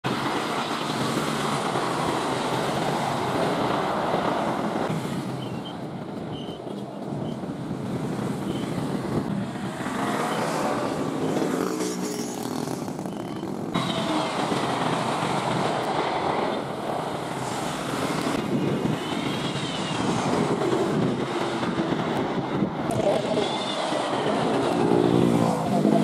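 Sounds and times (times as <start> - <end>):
jet engines rushing noise: 0.1 - 26.0.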